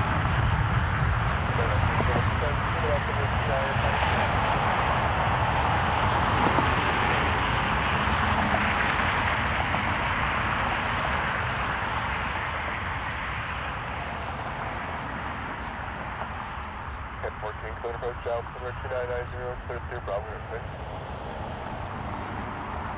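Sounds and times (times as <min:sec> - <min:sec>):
jet airliner engines roaring: 0:00.0 - 0:22.9.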